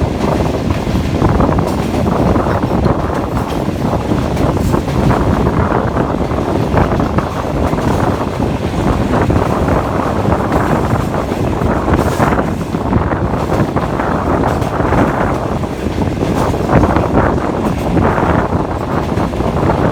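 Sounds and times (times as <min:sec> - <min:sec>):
moving train rumble: 0:00.0 - 0:19.9
wind buffeting microphone: 0:00.0 - 0:19.9.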